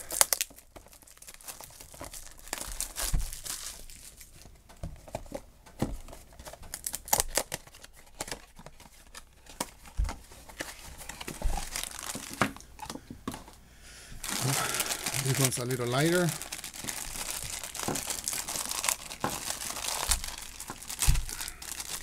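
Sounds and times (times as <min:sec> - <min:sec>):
foil bag crinkling: 0:00.0 - 0:04.5, 0:06.3 - 0:12.9, 0:14.2 - 0:22.0.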